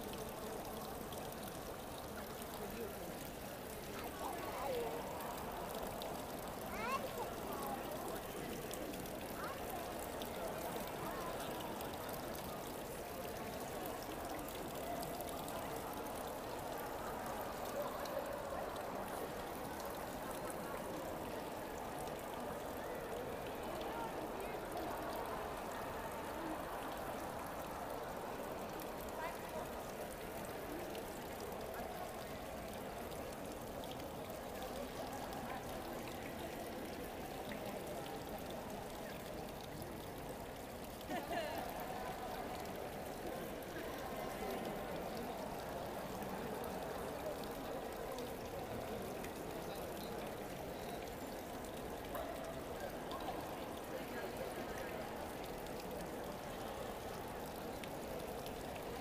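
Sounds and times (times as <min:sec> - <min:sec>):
fountain water splashing into pool: 0:00.0 - 0:59.0.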